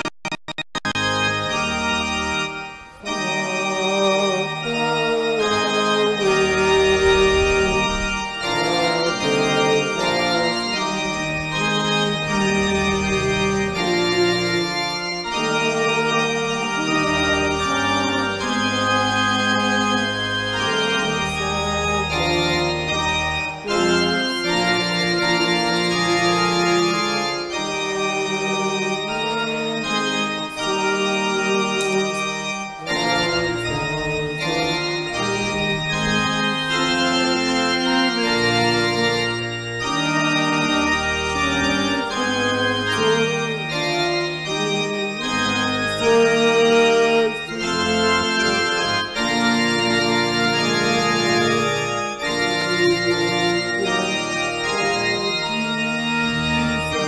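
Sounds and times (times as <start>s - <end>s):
organ bass line: 0.0s - 57.0s
organ playing sustained chords: 0.0s - 57.0s.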